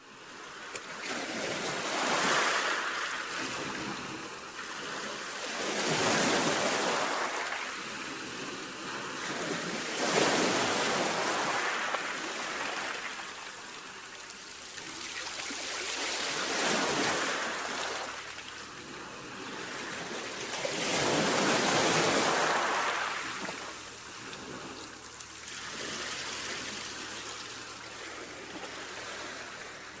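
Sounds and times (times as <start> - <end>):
sea waves breaking on shore: 0.4 - 30.0.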